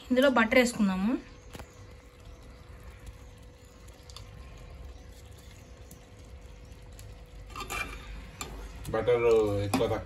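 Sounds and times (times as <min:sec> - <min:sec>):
curry simmering in a pot: 0:00.0 - 0:10.0.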